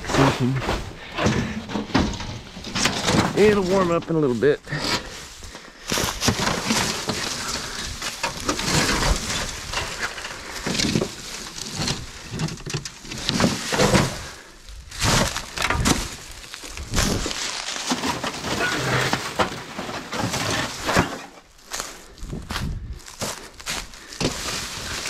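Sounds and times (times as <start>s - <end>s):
tin sheets scraping and knocking: 0.0s - 5.1s, 6.0s - 21.4s
dry leaves crunching underfoot: 3.4s - 19.2s, 20.5s - 25.0s.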